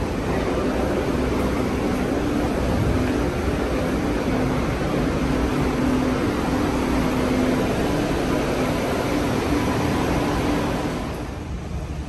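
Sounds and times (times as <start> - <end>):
subway station hum: 0.0 - 12.0.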